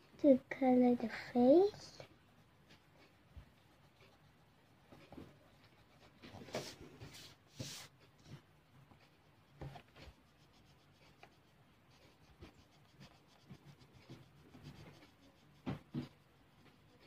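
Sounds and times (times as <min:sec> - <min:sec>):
pencil scratching on paper: 0:00.9 - 0:17.0.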